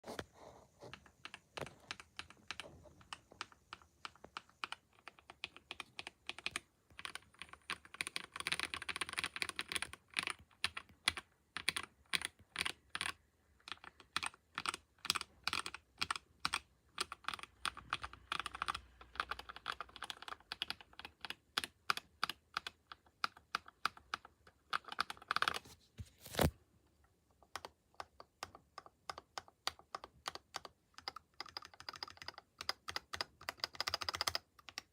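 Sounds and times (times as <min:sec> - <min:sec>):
mechanical keyboard typing: 0:00.8 - 0:25.7, 0:27.4 - 0:34.9.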